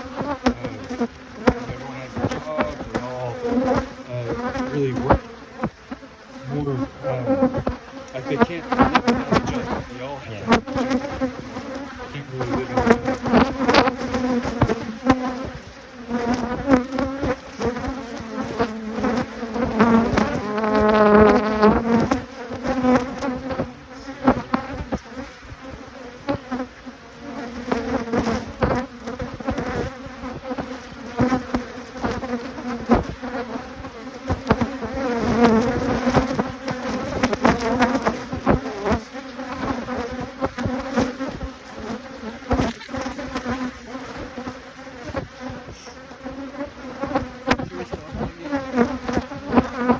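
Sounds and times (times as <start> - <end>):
bee droning past close by: 0.0 - 49.9
bees buzzing: 0.0 - 49.9.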